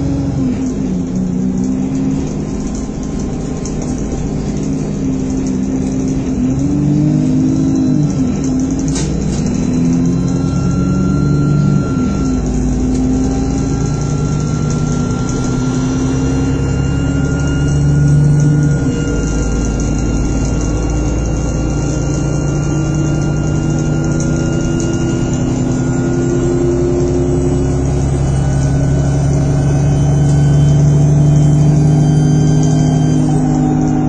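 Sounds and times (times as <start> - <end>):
bus engine revving: 0.0 - 34.0.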